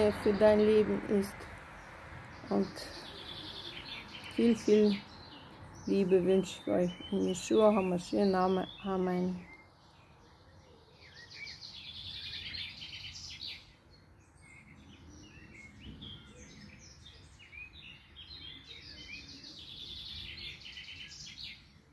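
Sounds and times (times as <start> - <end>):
songbirds singing and chirping: 0.0 - 21.9.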